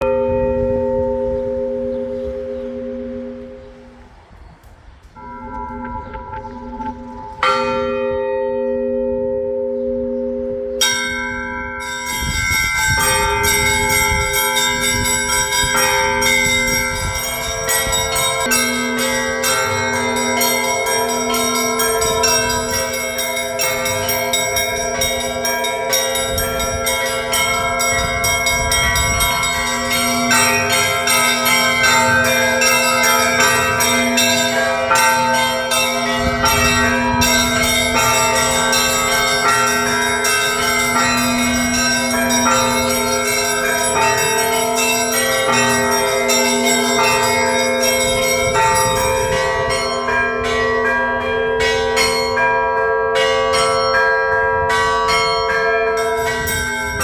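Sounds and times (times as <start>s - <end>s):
small church bells striking: 0.0s - 4.1s, 5.2s - 57.0s
large bells humming: 0.0s - 4.4s, 5.1s - 57.0s.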